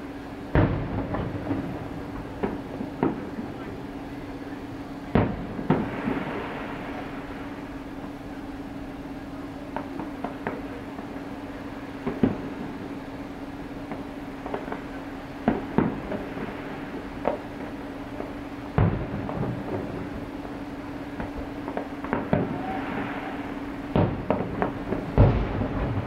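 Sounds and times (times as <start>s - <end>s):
steady low hum: 0.0s - 26.0s
distant fireworks bangs: 0.4s - 26.0s
small fireworks pops: 0.5s - 26.0s.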